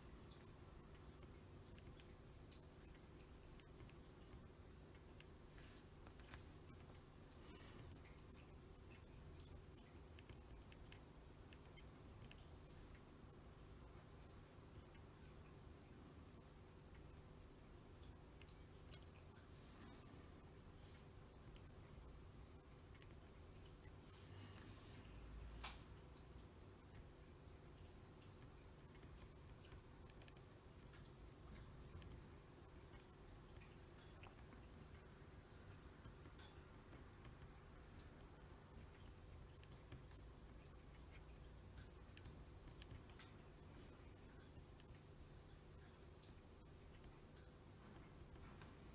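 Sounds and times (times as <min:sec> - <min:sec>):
low steady hum: 0:00.0 - 0:48.9
pen nib scratching on paper: 0:00.1 - 0:25.9, 0:26.8 - 0:48.9.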